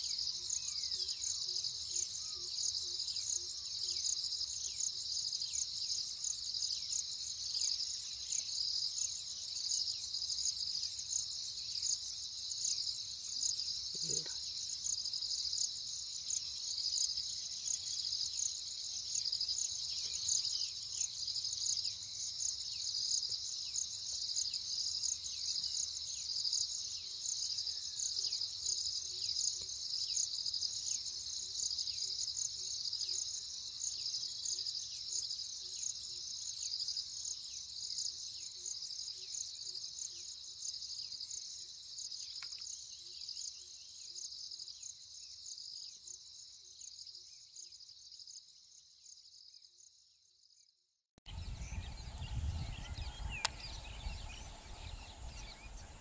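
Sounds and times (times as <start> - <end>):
pulsing insect chorus: 0.0 - 50.0, 51.3 - 56.0.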